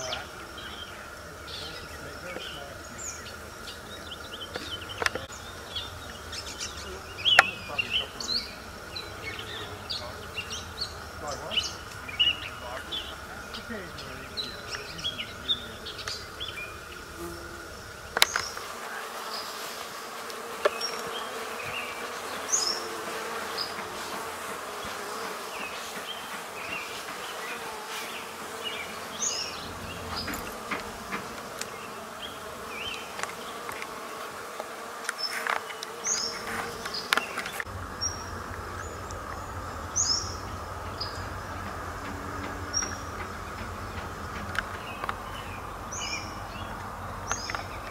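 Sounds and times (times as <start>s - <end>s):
bees buzzing: 0.0s - 47.9s
songbird chirps: 0.0s - 47.9s.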